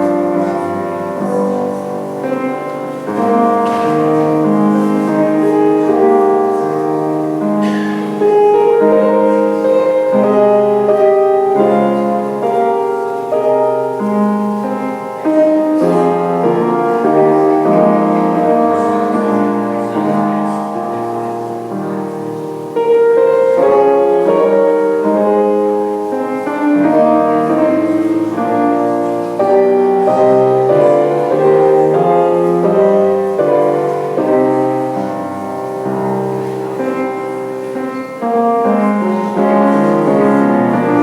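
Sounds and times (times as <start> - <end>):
piano playing slow chords: 0.0 - 41.0.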